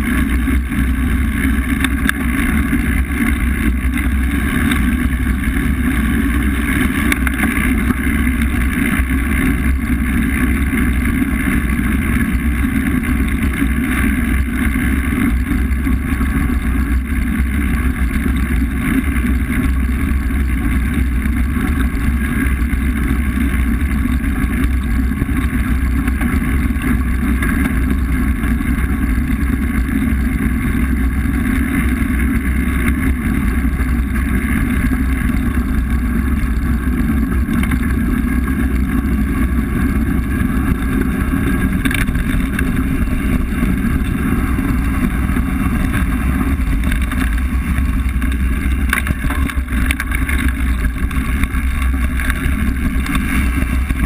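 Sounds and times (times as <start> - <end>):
bike tyres rolling on gravel: 0.0 - 54.0
wind buffeting microphone: 0.0 - 54.0.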